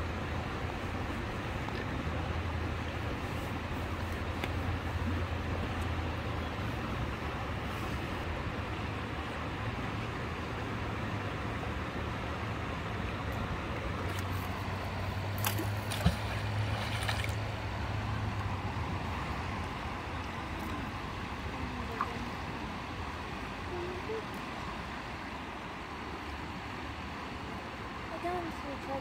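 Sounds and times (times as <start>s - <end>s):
low motor hum: 0.0s - 27.5s.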